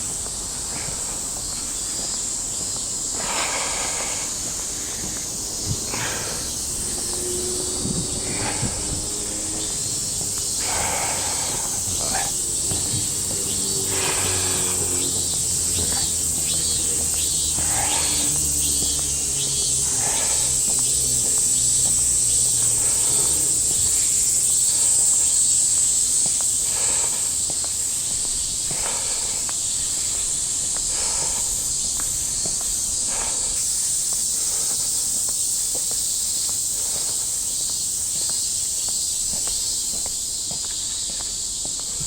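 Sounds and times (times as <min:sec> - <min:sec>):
cicadas droning: 0:00.0 - 0:42.0.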